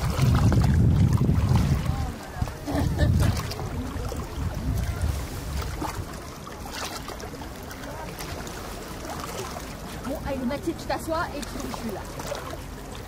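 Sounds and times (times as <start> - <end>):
sea and air noise: 0.0 - 13.0.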